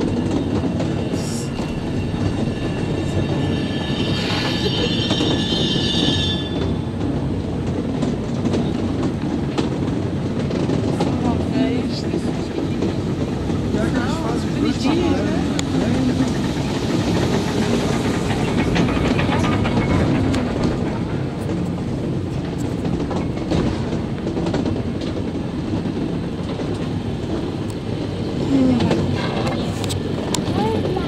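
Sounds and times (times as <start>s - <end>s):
wheels rumbling on rails: 0.0s - 31.0s.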